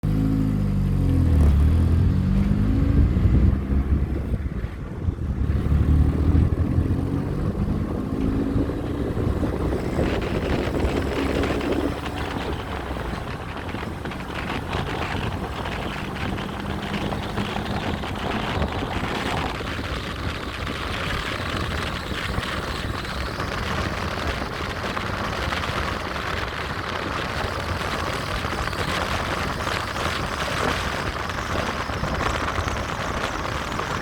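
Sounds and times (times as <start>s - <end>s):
vehicles passing by: 0.0s - 34.0s
rough rushing noise: 1.1s - 34.0s.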